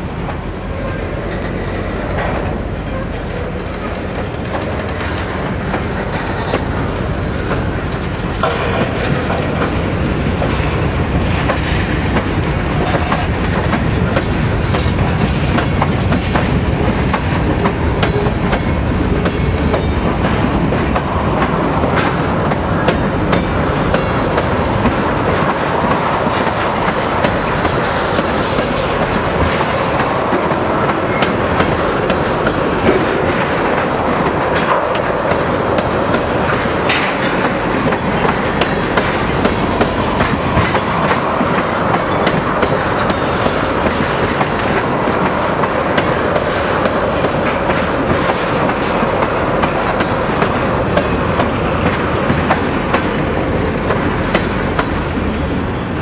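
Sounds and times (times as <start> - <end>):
freight train rolling past: 0.0 - 56.0
wheels clicking over rail joints: 1.3 - 55.3.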